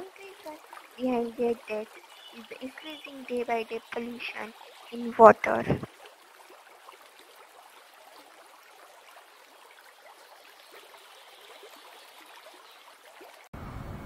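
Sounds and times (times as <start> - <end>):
faint water splashing and lapping: 0.0 - 13.5
small splashes and trickles: 0.0 - 13.5.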